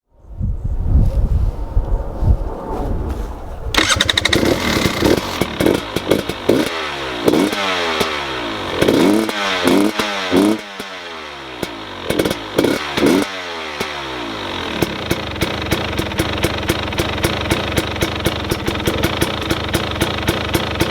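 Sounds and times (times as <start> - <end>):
sharp throttle blips: 3.7 - 20.9
two-stroke engine idling: 3.8 - 20.9.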